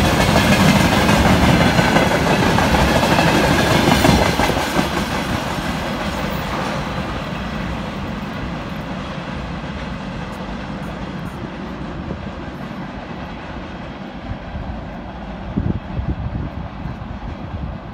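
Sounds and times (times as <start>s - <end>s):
freight train rumbling on rails: 0.0s - 17.9s
low bumps of train cars: 0.0s - 17.9s.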